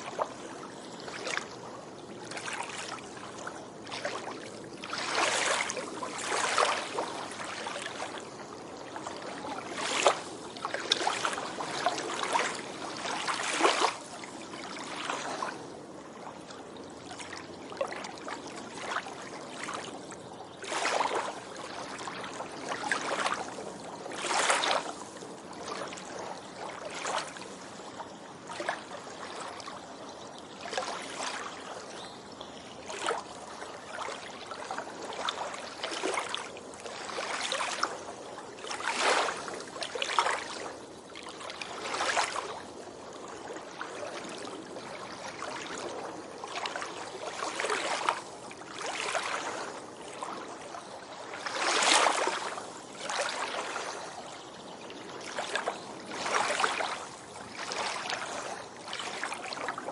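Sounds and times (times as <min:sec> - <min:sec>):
waves lapping on shore: 0:00.0 - 0:59.9.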